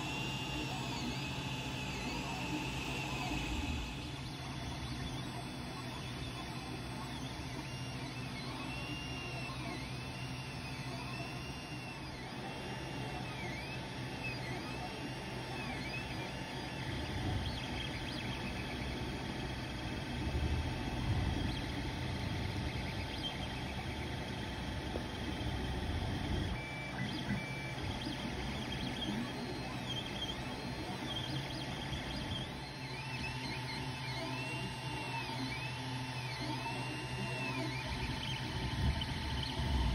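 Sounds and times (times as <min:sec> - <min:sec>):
cooling fans humming: 0:00.0 - 0:39.9
stepper motors whining: 0:00.0 - 0:39.9.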